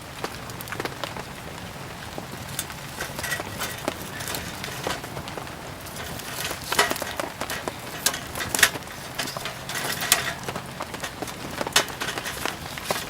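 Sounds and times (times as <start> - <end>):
rain hissing: 0.0 - 13.0
wood fire crackling and popping: 0.0 - 13.0.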